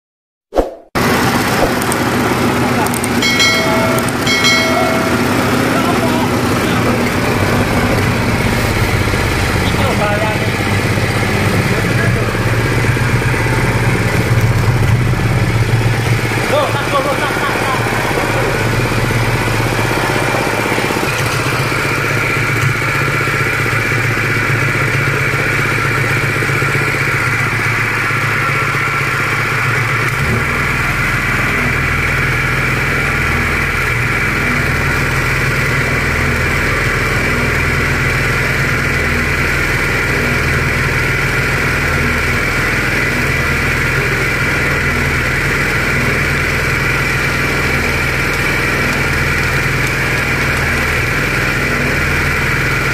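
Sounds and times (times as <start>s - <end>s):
feed mixer mechanical drone: 1.0s - 52.9s.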